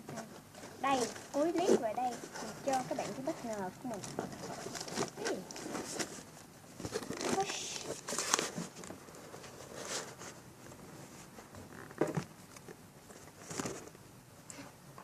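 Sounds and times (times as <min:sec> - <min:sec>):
paper and plastic bags rustling: 0:00.1 - 0:14.0.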